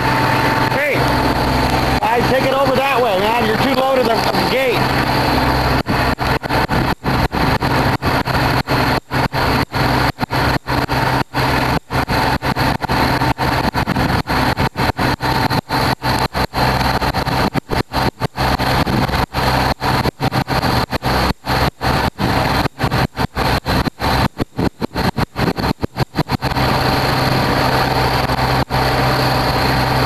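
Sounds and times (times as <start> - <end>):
heavy engine running: 0.0 - 30.0.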